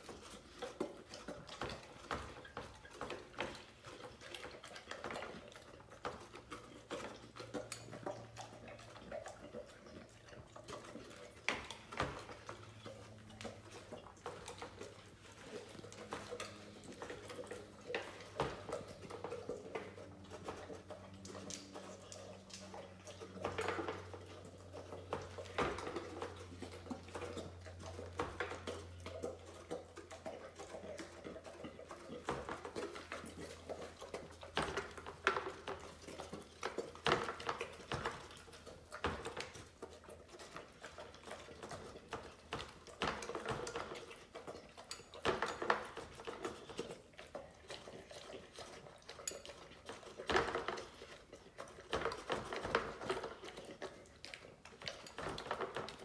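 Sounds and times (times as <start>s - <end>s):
dog eating from food bowl: 0.0s - 56.0s.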